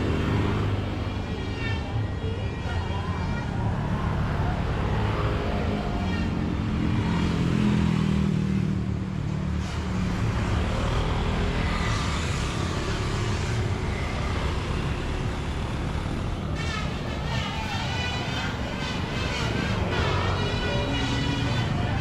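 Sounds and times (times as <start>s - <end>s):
steady road noise: 0.0s - 22.0s.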